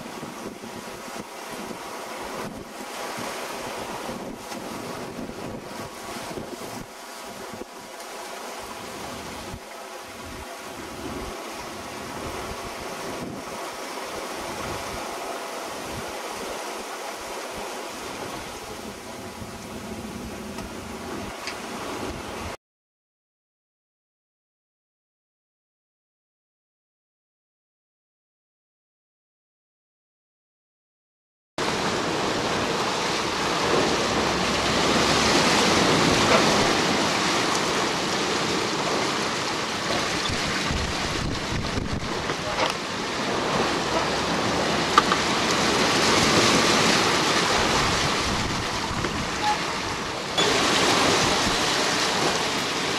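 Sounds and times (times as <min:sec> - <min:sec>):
wind buffeting microphone: 0:00.0 - 0:07.9, 0:08.6 - 0:22.6, 0:31.6 - 0:52.9
breaking sea: 0:00.0 - 0:22.6, 0:31.6 - 0:52.9
waves rushing along boat hull: 0:00.0 - 0:22.6, 0:31.6 - 0:52.9.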